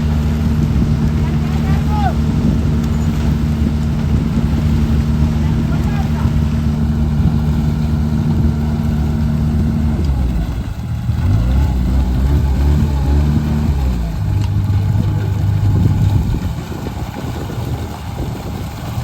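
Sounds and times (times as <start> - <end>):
construction machinery engine running: 0.0 - 19.0.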